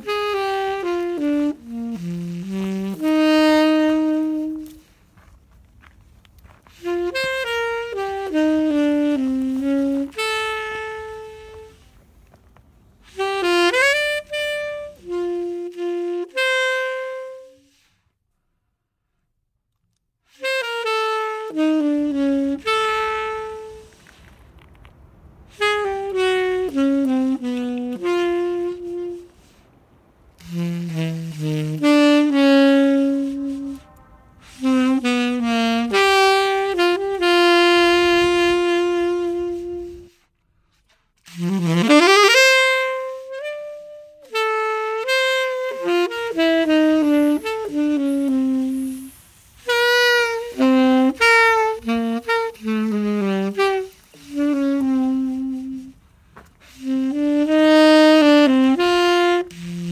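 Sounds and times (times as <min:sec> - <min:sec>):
solo saxophone melody: 0:00.0 - 0:18.1, 0:20.3 - 0:59.9.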